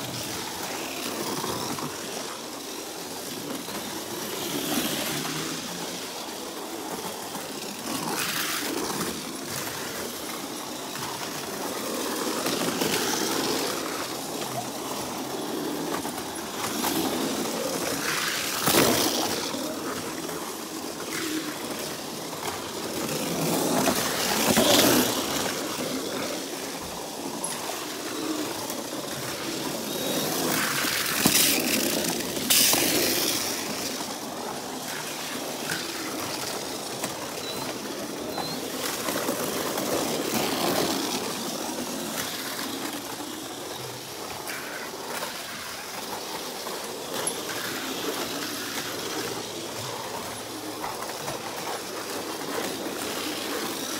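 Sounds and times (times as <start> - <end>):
small electric motors whirring: 0.0 - 53.9
toy cars clattering in plastic lanes: 0.0 - 53.9.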